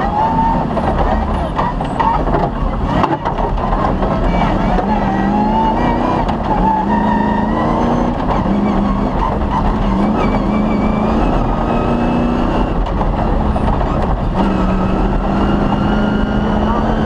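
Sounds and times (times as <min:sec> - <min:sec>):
rally car engine under load: 0:00.0 - 0:17.0
tyre and chassis noise: 0:00.0 - 0:17.0.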